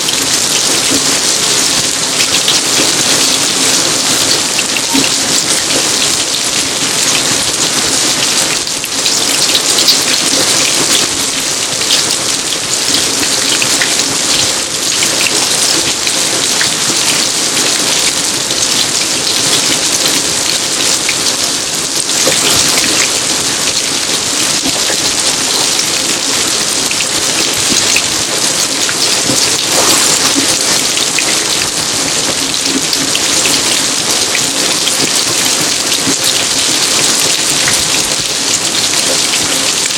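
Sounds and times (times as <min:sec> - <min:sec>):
raindrops ticking on surfaces: 0:00.0 - 0:39.9
steady rain hiss: 0:00.0 - 0:39.9.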